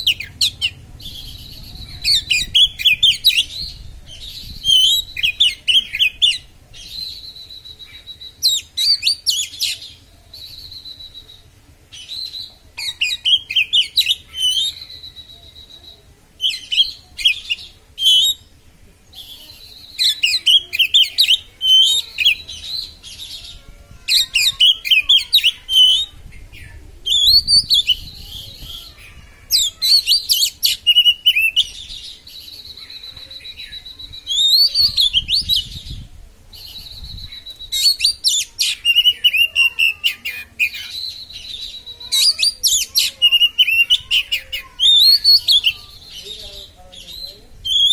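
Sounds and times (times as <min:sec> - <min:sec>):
bird chattering song: 0:00.0 - 0:47.9.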